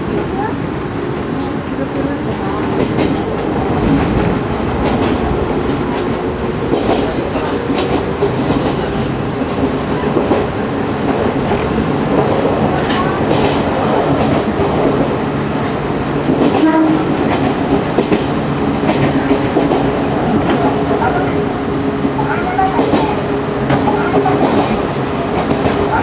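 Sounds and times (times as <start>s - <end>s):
electric train rumble and motor hum: 0.0s - 26.0s.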